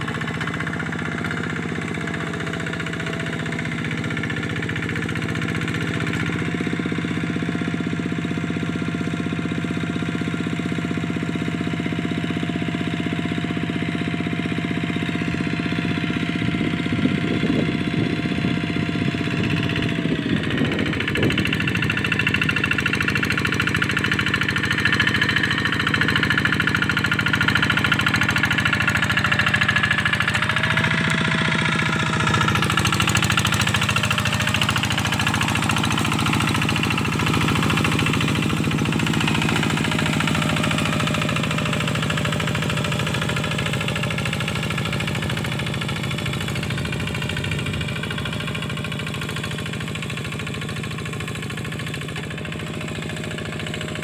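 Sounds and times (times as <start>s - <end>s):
hand tractor diesel engine: 0.0s - 54.0s.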